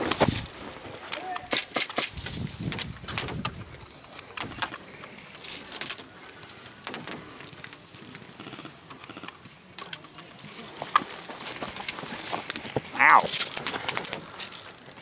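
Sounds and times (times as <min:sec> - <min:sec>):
rustling and clicking: 0:00.0 - 0:15.0.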